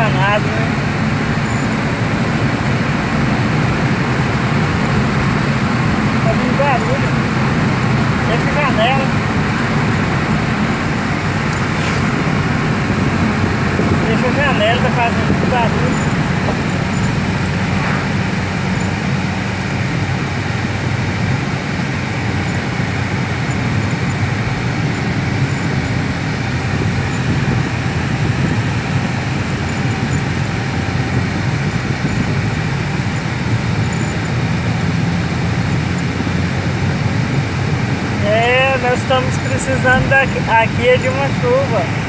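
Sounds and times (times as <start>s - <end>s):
road noise inside car: 0.0s - 42.0s
wind noise: 0.7s - 42.0s.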